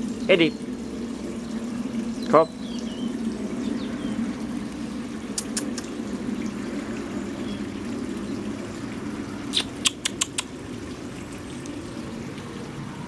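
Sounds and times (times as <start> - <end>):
fountain water running: 0.0 - 13.0.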